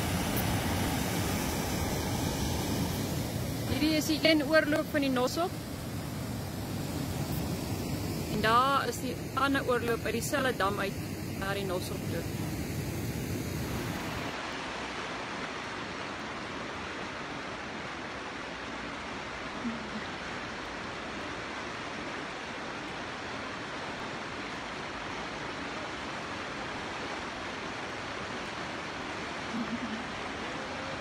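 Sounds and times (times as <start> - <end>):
floodwater rushing: 0.0 - 12.2, 13.6 - 31.0.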